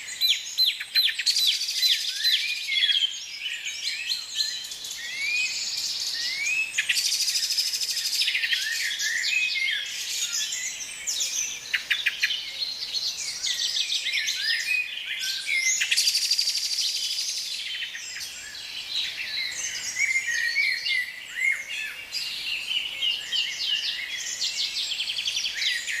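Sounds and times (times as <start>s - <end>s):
birds chirping and whistling: 0.0s - 26.0s.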